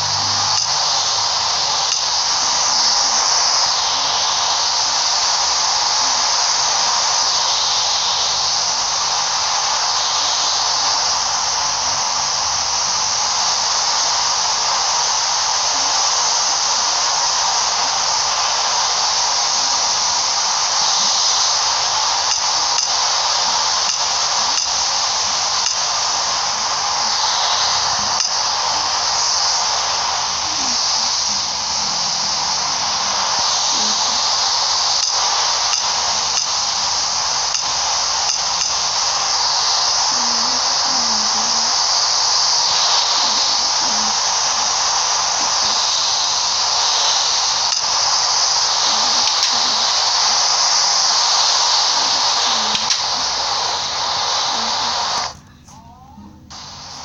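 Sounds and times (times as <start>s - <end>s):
loud steady hiss: 0.0s - 57.0s.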